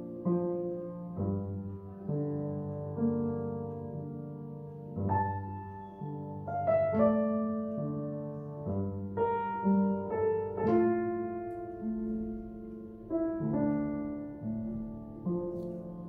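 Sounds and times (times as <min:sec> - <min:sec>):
upright piano chords: 0:00.0 - 0:16.0.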